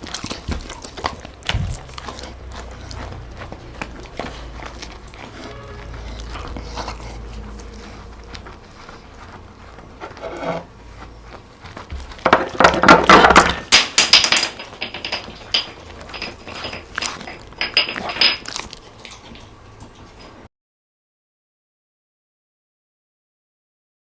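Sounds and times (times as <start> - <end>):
dog food crunching: 0.0 - 13.8, 14.6 - 20.4
dry dog food rattling: 0.0 - 19.4.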